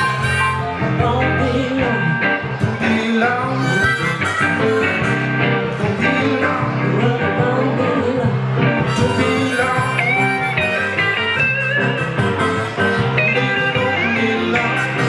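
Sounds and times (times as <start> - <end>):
blues band playing: 0.0 - 15.0
harmonica: 0.0 - 15.0.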